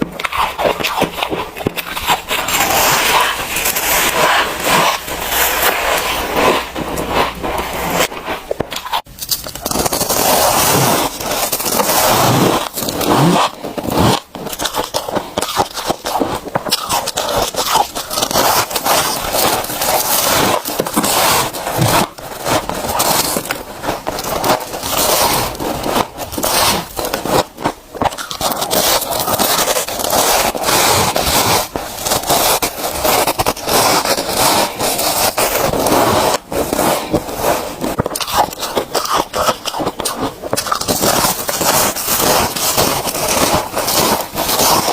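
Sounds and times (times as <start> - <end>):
freezer frost crunching: 0.0 - 44.9.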